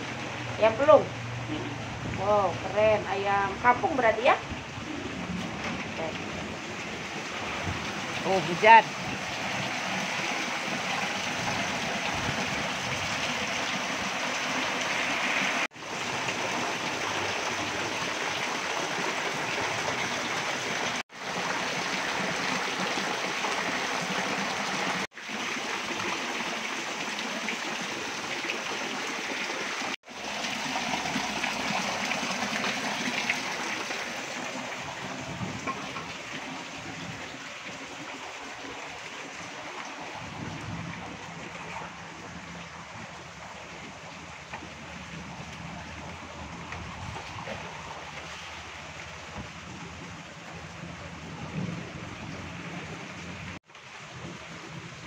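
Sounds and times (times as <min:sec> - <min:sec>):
heavy rain splashing: 0:00.0 - 0:55.0.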